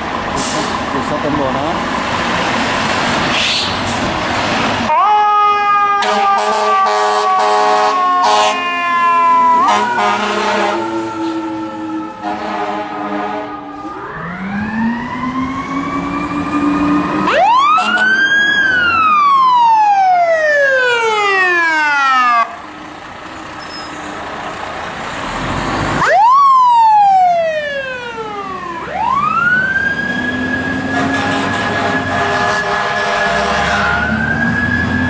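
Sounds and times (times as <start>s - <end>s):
fire truck siren wailing: 0.0s - 35.0s.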